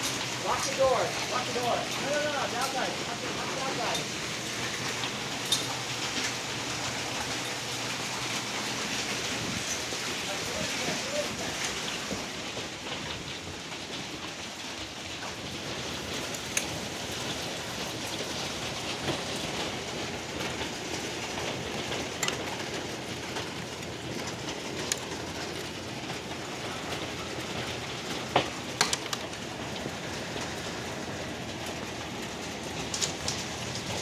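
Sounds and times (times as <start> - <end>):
hailstones knocking: 0.0 - 34.0
heavy rain pouring: 0.0 - 34.0.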